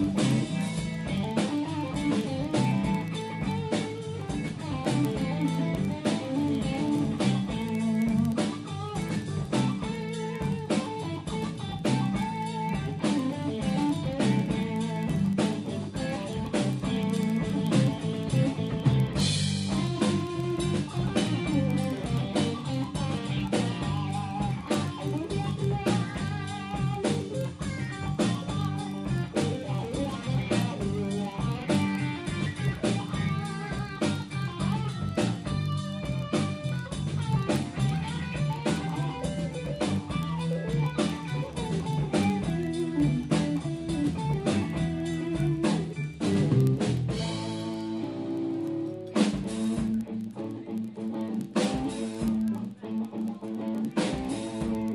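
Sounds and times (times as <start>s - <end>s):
bass guitar: 0.0s - 54.9s
drum kit: 0.0s - 54.9s
electric guitar: 0.0s - 54.9s.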